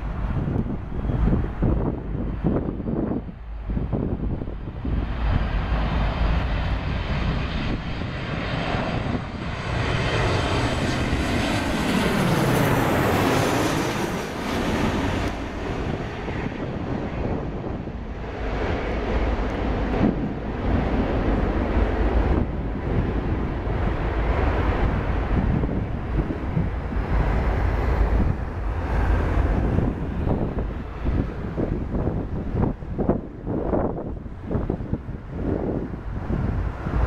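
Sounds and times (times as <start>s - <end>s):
jet airliner passing overhead: 0.0s - 37.0s.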